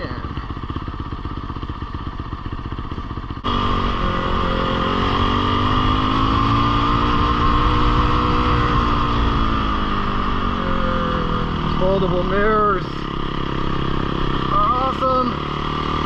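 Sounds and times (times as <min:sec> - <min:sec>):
motorcycle engine putting: 0:00.0 - 0:16.0.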